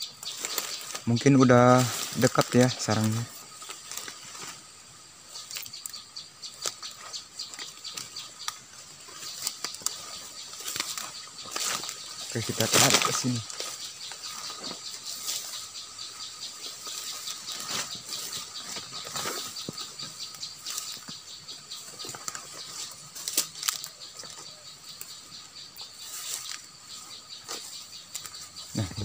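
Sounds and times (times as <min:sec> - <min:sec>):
footsteps crunching through undergrowth: 0:00.0 - 0:29.0
bird chattering: 0:05.3 - 0:29.0.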